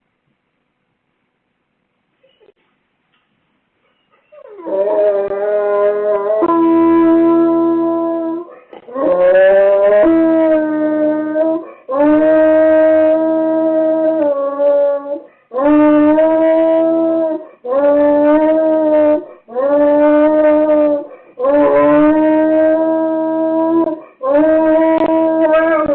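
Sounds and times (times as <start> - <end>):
dog howling: 4.2 - 25.9.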